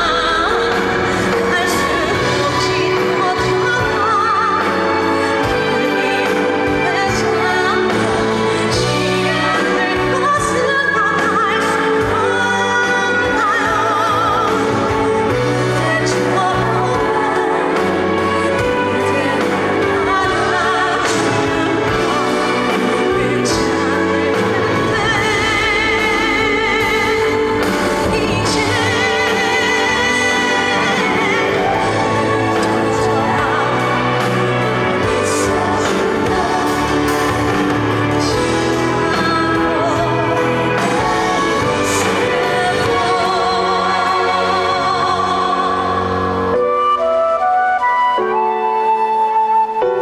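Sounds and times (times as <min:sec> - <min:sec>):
band backing track: 0:00.0 - 0:50.0
woman singing: 0:00.0 - 0:50.0.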